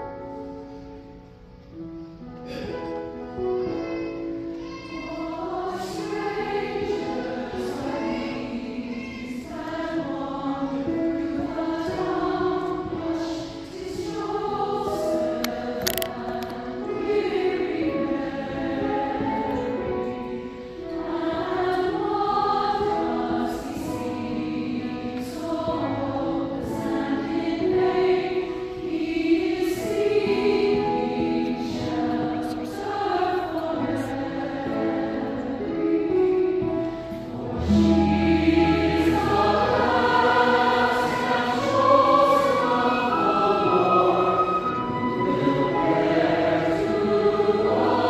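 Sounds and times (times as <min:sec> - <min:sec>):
mixed choir singing a carol: 0:00.0 - 0:48.0.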